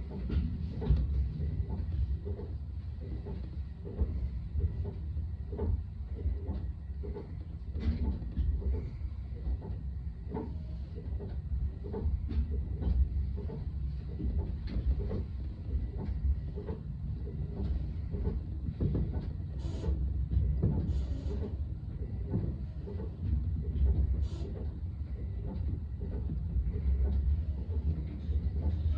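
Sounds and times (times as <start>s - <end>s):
train low rumble: 0.0s - 28.9s.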